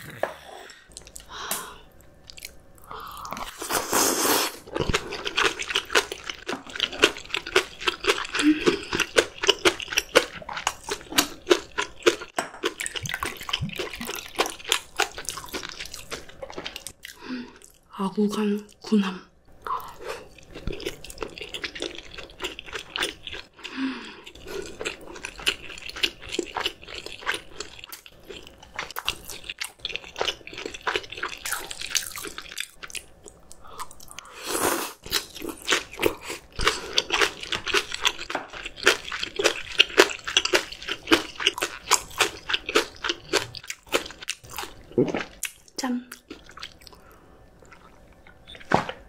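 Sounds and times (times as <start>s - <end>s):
wet chewing with crisp crunches: 3.2s - 17.8s, 19.8s - 34.3s, 35.0s - 49.0s.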